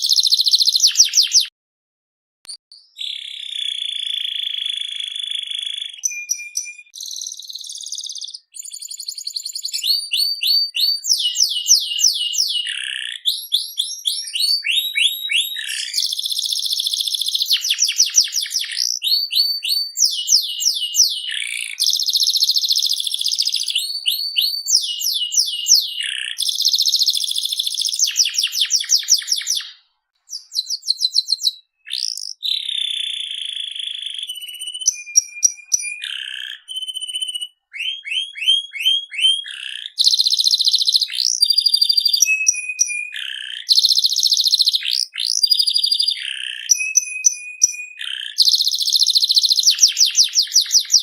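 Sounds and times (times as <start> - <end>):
canary singing in trills: 0.0 - 1.5, 2.7 - 51.0.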